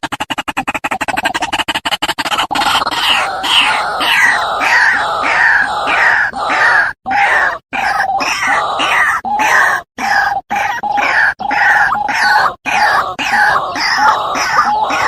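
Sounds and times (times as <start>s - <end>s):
waterhen harsh calls: 2.1s - 15.0s.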